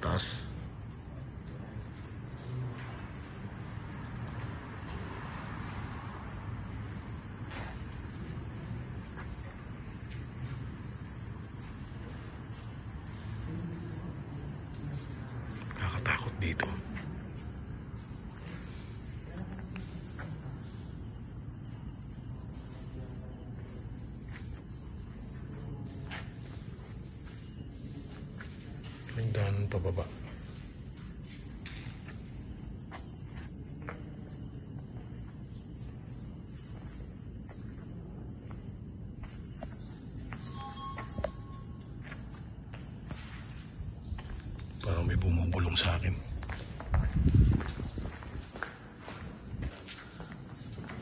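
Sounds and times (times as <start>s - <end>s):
crickets chirring: 0.0s - 51.0s.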